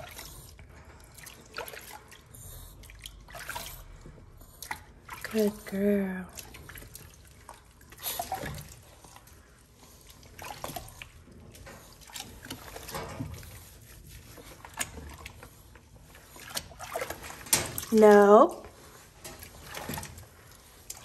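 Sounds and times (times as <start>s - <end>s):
water sloshing: 0.0s - 21.0s
water splashing and dripping: 0.0s - 21.0s.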